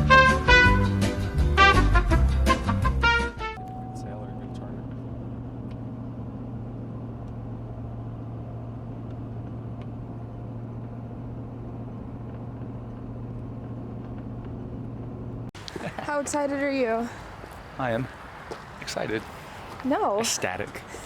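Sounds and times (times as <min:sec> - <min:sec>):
car interior engine and road noise: 0:03.6 - 0:20.6.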